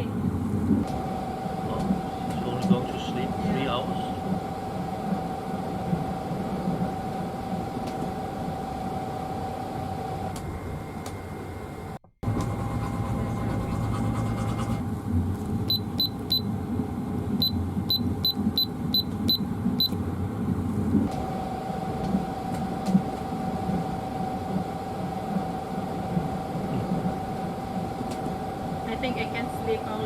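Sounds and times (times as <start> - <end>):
train carriage rumble: 0.0 - 30.0.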